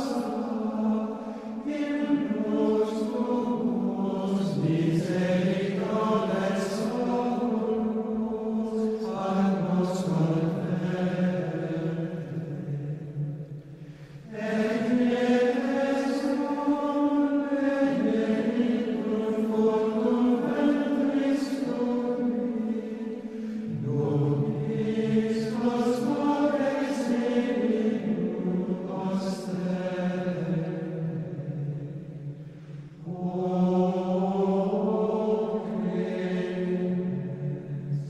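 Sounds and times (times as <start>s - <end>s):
slow sung chant: 0.0s - 38.0s.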